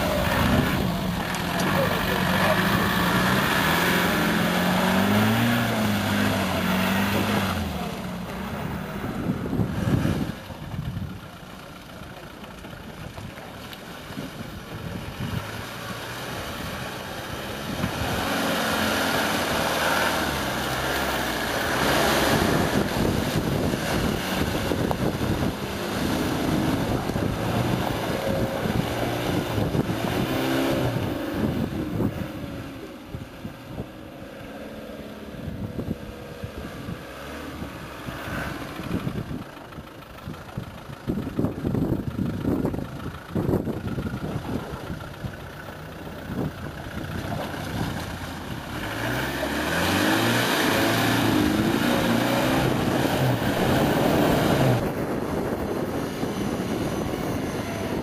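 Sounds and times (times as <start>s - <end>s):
off-road engines revving: 0.0s - 58.0s.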